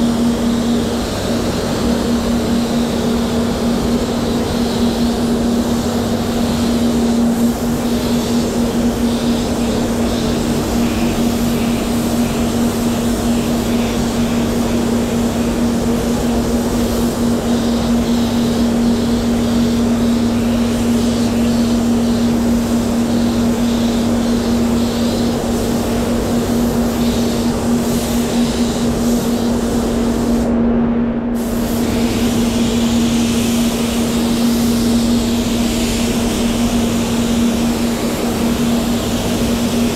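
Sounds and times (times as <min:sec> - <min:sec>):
spray gun hissing: 0:00.0 - 0:30.5, 0:31.4 - 0:39.9
steady low hum: 0:00.0 - 0:39.9.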